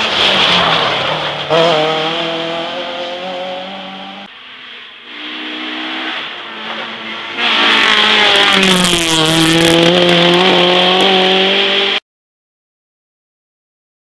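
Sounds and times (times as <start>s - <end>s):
rally car engine passing at high revs: 0.0s - 12.0s.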